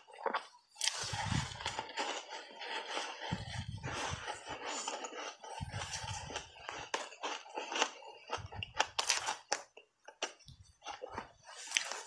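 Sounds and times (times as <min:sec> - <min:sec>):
ice crunching while chewed: 0:00.0 - 0:12.0.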